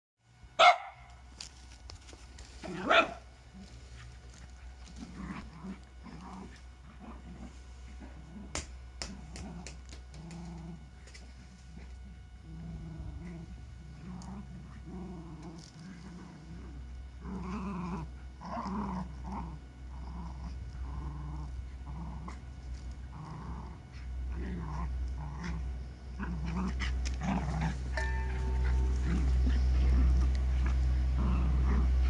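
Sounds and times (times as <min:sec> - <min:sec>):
dogs growling in play: 0:02.4 - 0:32.0.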